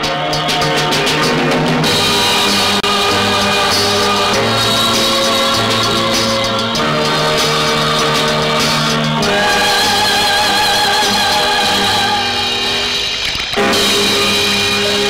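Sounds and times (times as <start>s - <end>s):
film soundtrack music: 0.0s - 15.0s.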